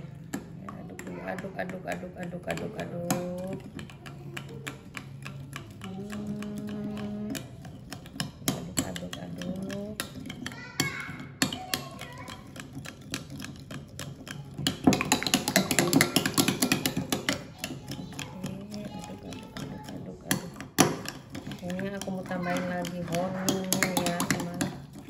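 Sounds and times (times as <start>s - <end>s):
spoon stirring and scraping container: 0.0s - 25.0s.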